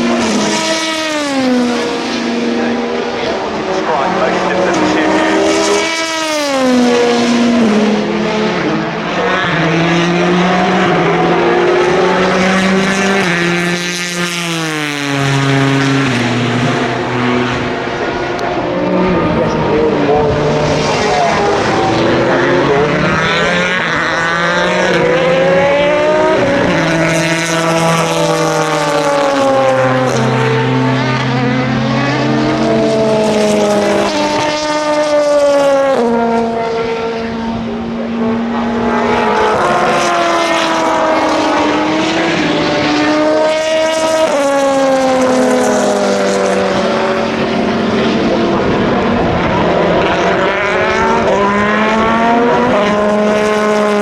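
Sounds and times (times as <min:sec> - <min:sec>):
racing cars passing at speed: 0:00.0 - 0:54.0.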